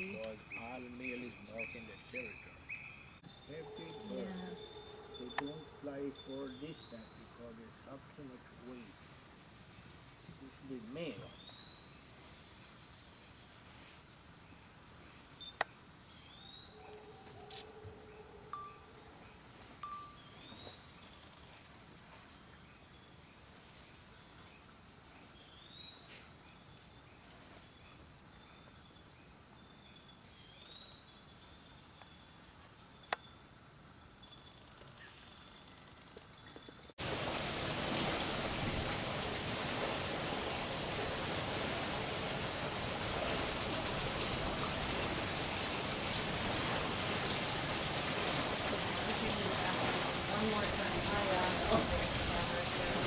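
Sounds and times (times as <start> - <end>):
insects droning high-pitched: 0.0 - 53.0
pulsing insect trills: 0.0 - 53.0.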